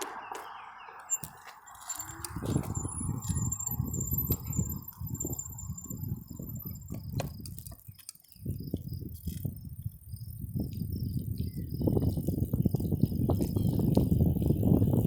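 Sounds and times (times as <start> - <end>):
wind and tyre rumble: 0.0 - 15.0.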